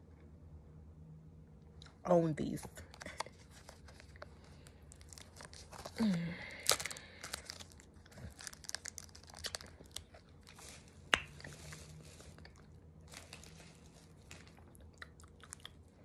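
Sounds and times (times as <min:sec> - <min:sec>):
plastic sleeve crinkling: 0:02.9 - 0:15.8
crunching on frozen ice pop: 0:03.0 - 0:16.0.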